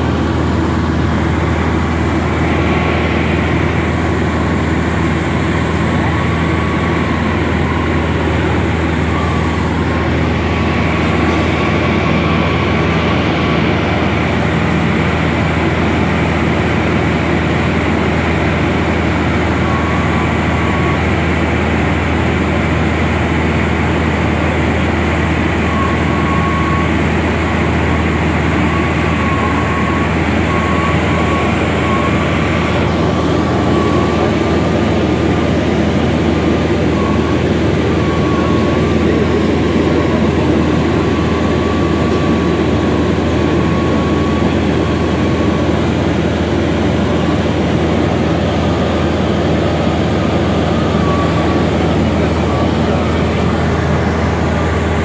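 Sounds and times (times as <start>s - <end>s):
plane engine droning: 0.0s - 55.0s.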